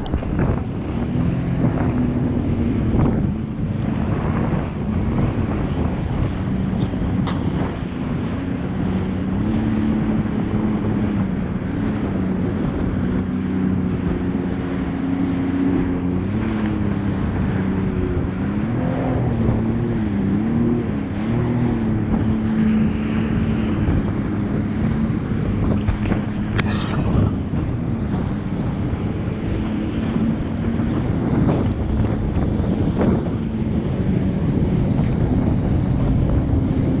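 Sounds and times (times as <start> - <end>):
jet ski engine running: 0.0 - 37.0
wind buffeting microphone: 0.0 - 37.0.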